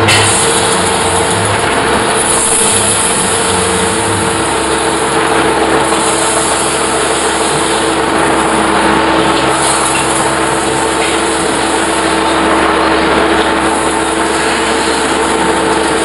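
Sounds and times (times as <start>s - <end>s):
metal-spinning lathe running: 0.0s - 16.0s.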